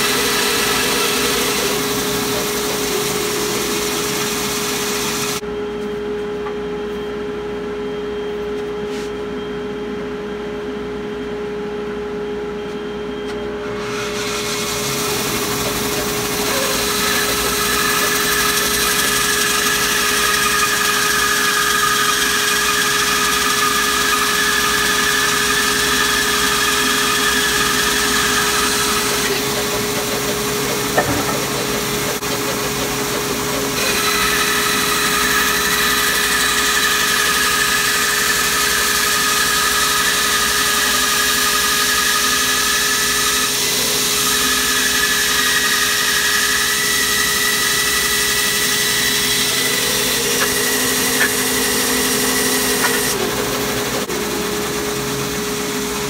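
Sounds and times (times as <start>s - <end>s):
bandsaw cutting wood: 0.0s - 5.4s, 13.8s - 54.3s.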